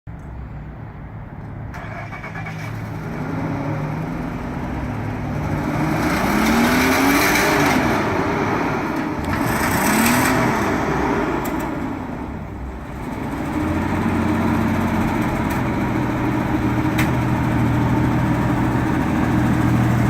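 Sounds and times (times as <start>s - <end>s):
car engine idling and revving: 0.2s - 20.0s.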